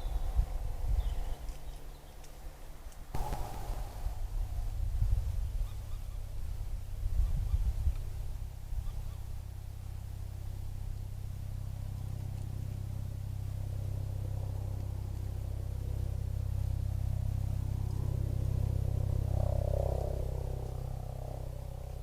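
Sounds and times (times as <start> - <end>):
distant engine rumble: 3.2 - 7.5, 8.2 - 22.0.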